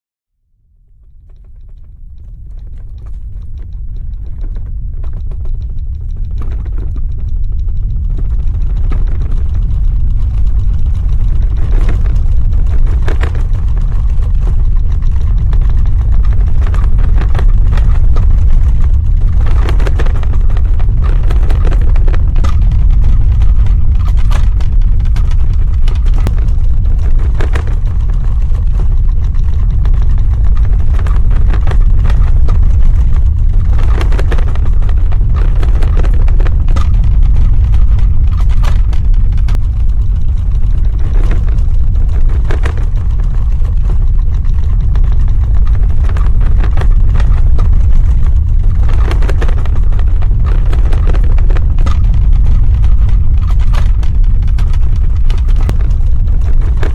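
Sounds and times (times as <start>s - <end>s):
deep ground rumble: 0.4s - 56.9s
short cracks and rattles: 1.2s - 56.9s.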